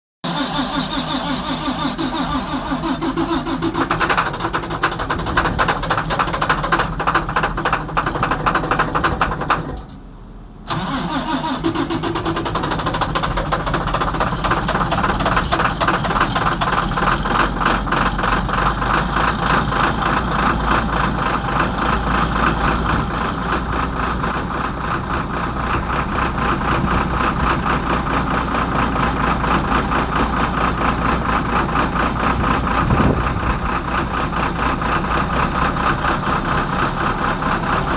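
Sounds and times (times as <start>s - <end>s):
diesel engine clattering: 0.2s - 37.9s
diesel engine cranking: 0.2s - 37.9s.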